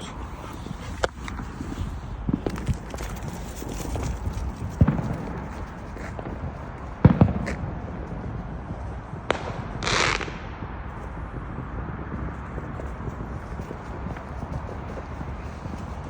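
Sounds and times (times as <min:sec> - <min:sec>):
fireworks crack: 0:00.0 - 0:16.0
fireworks banging: 0:00.8 - 0:16.0.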